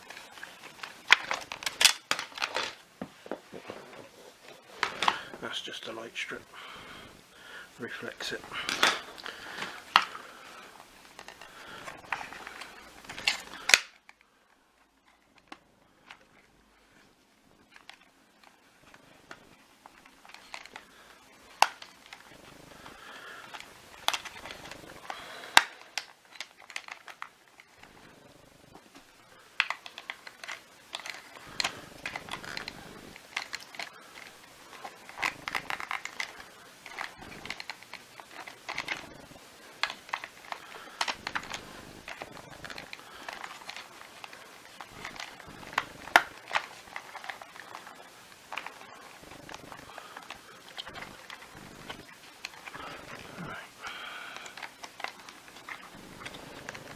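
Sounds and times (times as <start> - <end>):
plastic parts clicking and rattling: 0.0 - 6.5, 7.1 - 16.6, 17.6 - 56.9
rustling handling noise: 0.0 - 56.9.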